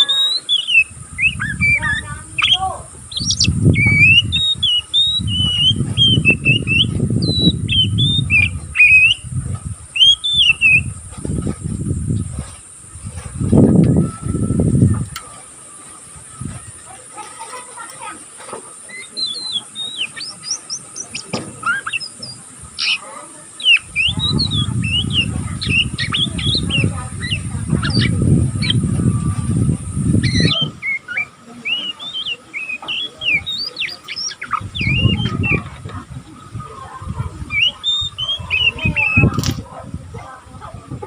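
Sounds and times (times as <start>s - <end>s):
bird twittering chirps: 0.0s - 17.0s, 18.9s - 36.6s, 37.4s - 39.6s.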